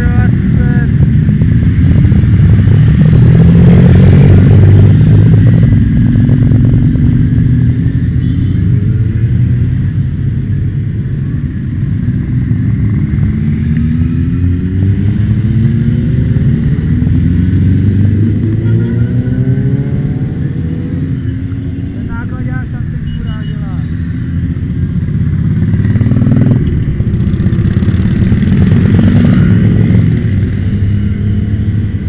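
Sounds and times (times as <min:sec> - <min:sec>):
motorcycle engines accelerating: 0:00.0 - 0:32.0
motorcycles riding past: 0:00.0 - 0:32.0.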